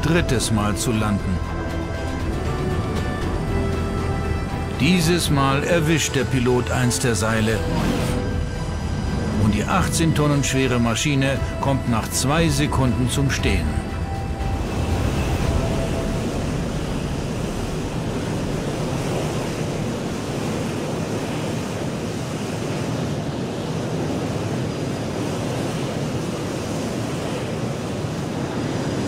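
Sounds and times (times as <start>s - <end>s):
wind rushing: 0.0s - 23.3s.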